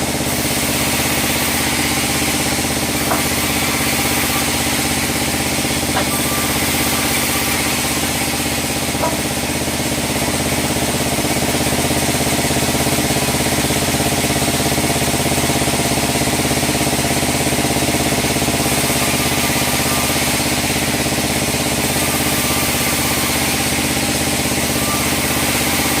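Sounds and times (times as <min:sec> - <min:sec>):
bandsaw machinery humming: 0:00.0 - 0:26.0.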